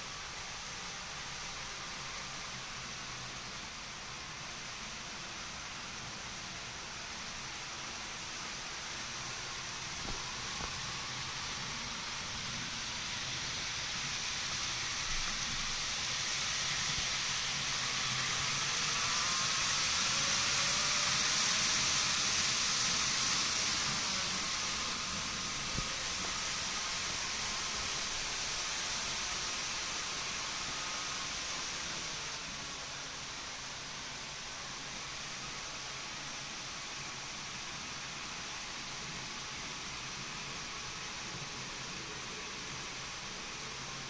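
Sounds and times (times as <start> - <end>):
model train running on track: 0.0 - 44.0
steady hiss: 0.0 - 44.0.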